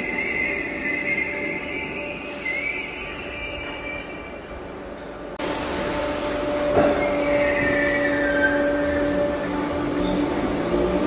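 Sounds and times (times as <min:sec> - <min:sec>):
train humming: 0:00.0 - 0:11.0
wheels squealing on rails: 0:00.0 - 0:11.0.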